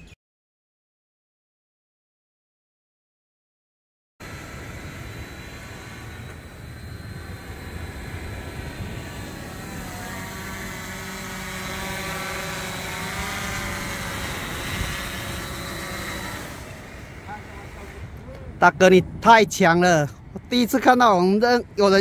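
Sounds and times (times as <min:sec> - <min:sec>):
drone propeller buzz: 0:04.2 - 0:22.0.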